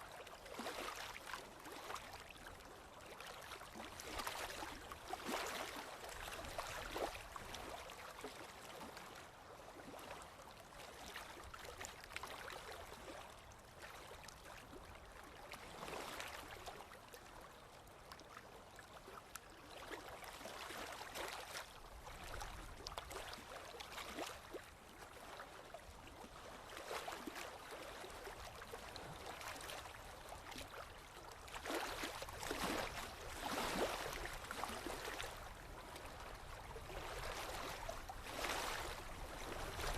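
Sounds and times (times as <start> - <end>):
river water flowing: 0.1 - 39.9.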